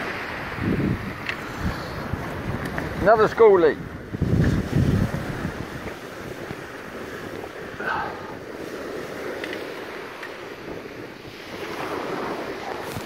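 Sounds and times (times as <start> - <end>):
surf hiss: 0.0 - 13.0
wind noise: 0.0 - 13.0.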